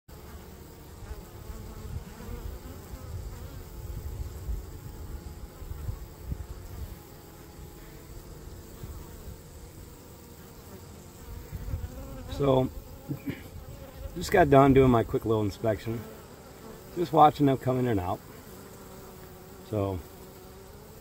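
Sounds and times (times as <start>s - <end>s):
honeybees buzzing: 0.1s - 21.0s.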